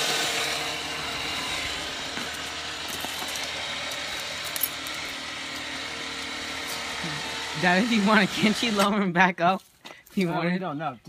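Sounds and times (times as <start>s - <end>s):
small engine idling: 0.0s - 9.0s.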